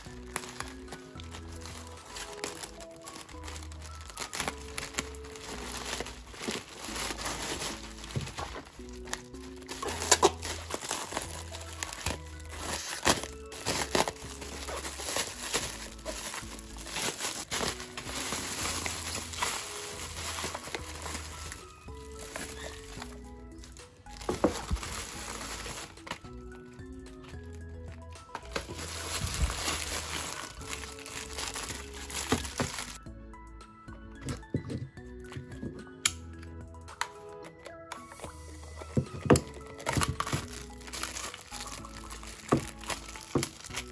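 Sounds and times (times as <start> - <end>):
plastic packaging crinkling: 0.0 - 33.0, 38.9 - 43.9
soft background music: 0.0 - 43.9.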